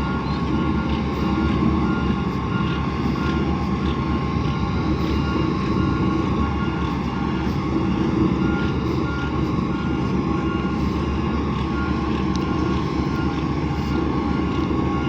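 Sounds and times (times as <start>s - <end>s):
diesel engine running: 0.0s - 15.0s
reversing alarm beeping: 0.0s - 15.0s.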